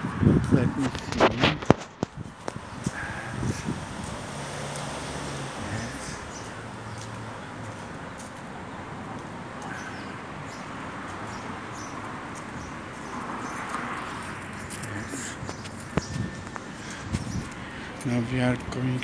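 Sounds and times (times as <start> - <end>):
city street traffic: 0.0 - 19.0
vehicle passing: 0.0 - 19.0.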